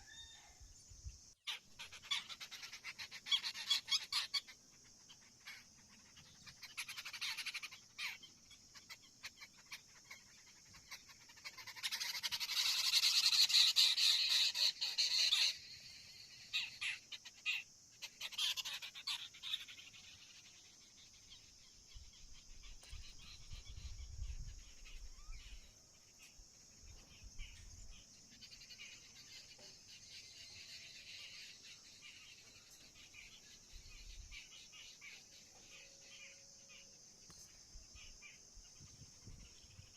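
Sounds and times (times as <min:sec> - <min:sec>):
birds calling raspily: 0:01.2 - 0:39.9.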